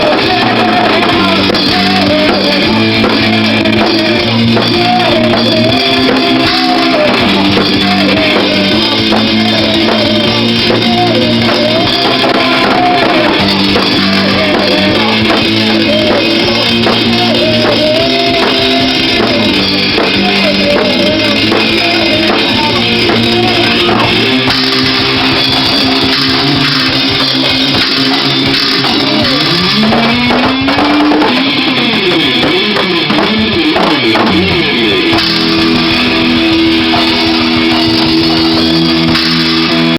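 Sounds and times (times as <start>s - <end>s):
electric guitar lead line: 0.0s - 39.9s
rock band playing live: 0.0s - 39.9s.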